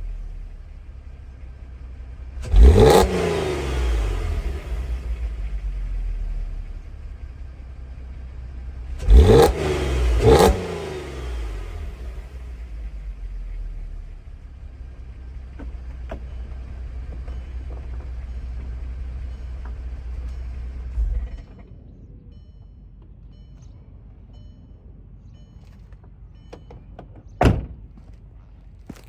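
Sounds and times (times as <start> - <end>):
car engine revving and idling: 0.0 - 24.5.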